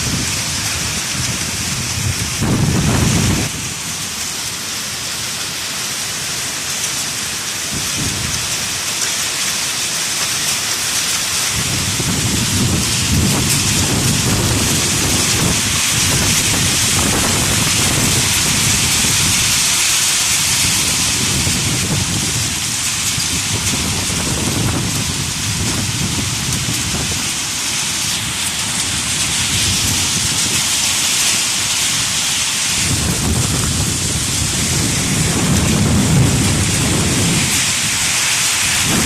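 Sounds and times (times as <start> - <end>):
low storm rumble: 0.0 - 4.2, 11.3 - 39.0
heavy rain downpour: 0.0 - 39.0.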